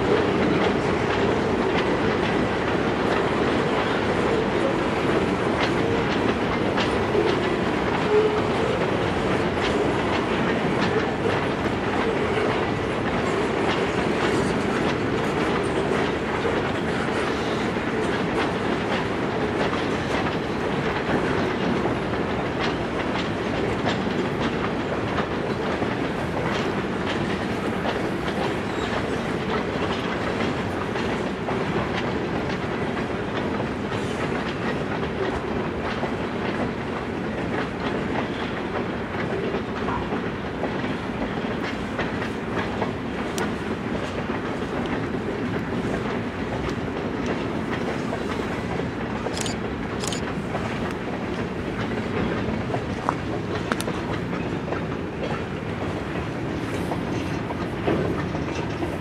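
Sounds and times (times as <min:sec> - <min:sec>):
freight train wheels rumbling: 0:00.0 - 0:59.0
wheels clicking over rail joints: 0:00.1 - 0:59.0.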